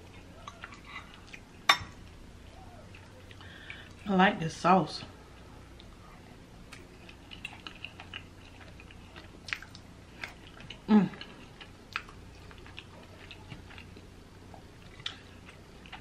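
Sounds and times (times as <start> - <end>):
person chewing food: 0.0 - 4.1, 5.4 - 16.0.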